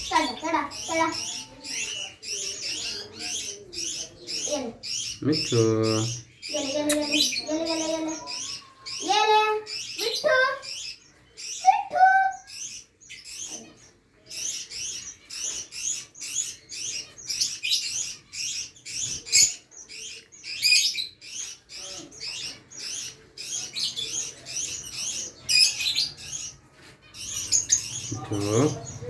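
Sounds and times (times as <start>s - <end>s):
parrot chirping: 0.0s - 29.0s.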